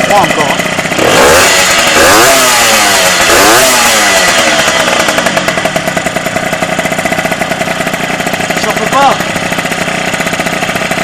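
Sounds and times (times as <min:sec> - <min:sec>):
motorcycle engine revving and idling: 0:00.0 - 0:11.0.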